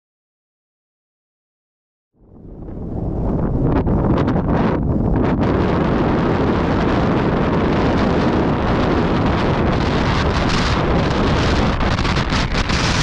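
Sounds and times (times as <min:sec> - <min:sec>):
wind buffeting microphone: 0:02.2 - 0:13.0.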